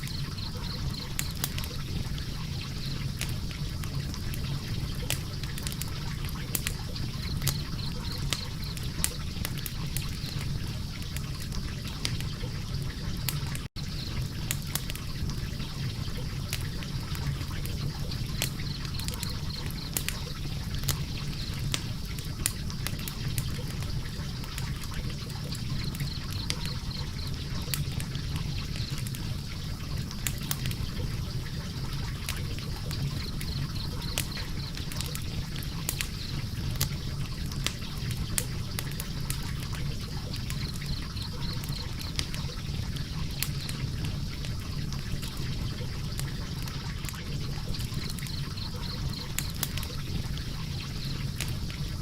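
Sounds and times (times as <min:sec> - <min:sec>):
fire crackling and popping: 0:00.0 - 0:52.0
low rush of flame: 0:00.0 - 0:52.0.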